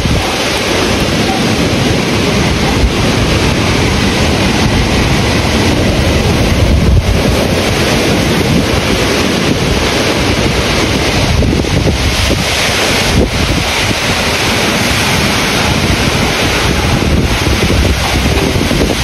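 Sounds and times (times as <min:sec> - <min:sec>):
heavy rain: 0:00.0 - 0:19.0
strong wind: 0:00.0 - 0:19.0
wind buffeting microphone: 0:00.0 - 0:19.0.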